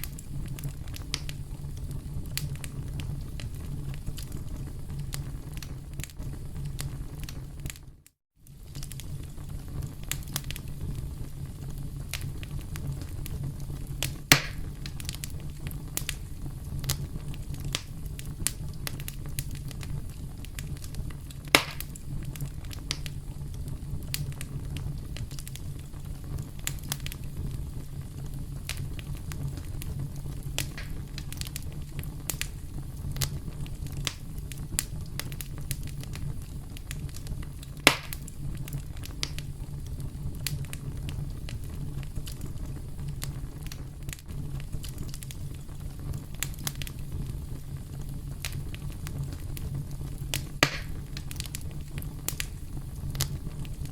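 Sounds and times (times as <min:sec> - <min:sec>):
campfire crackling: 0:00.0 - 0:53.9
loud fire pops: 0:00.0 - 0:53.9
low rumble of flames: 0:00.0 - 0:53.9.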